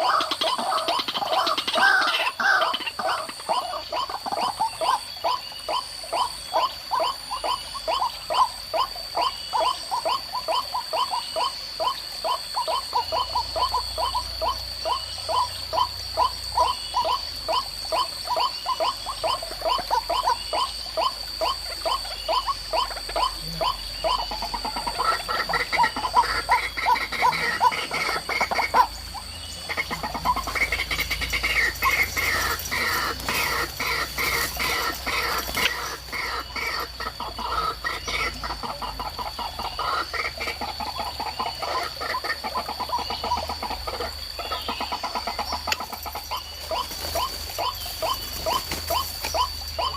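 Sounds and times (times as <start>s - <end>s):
high insect-like whine: 0.0s - 49.9s
waterhen croaking calls: 0.0s - 49.9s.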